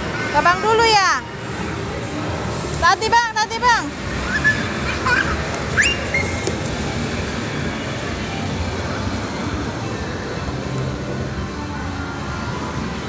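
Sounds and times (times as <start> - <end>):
busy indoor playground din: 0.0 - 13.0.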